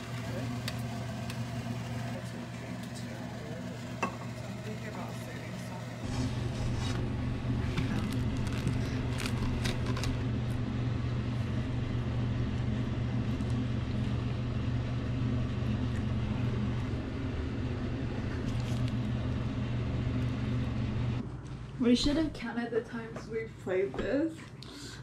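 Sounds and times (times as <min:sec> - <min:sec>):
low droning hum: 0:00.0 - 0:23.8.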